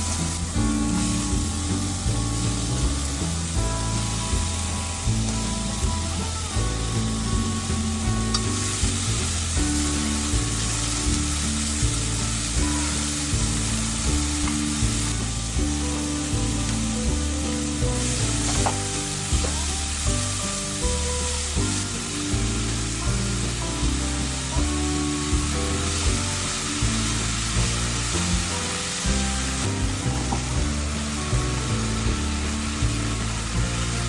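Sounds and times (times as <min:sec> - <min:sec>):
background music with beat: 0:00.0 - 0:34.0
food sizzling in frying pan: 0:00.0 - 0:34.0.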